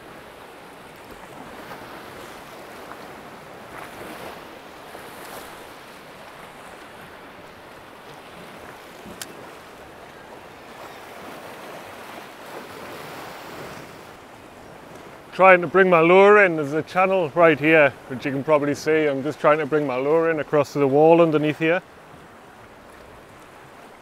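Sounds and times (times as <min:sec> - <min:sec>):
waves washing over rocks: 0:00.0 - 0:24.0.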